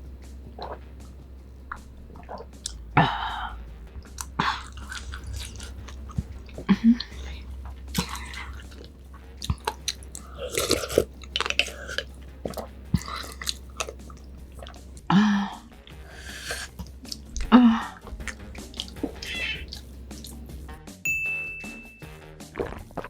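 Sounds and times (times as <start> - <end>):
person chewing and biting food: 0.0 - 20.7
wet mouth clicks: 0.2 - 20.7.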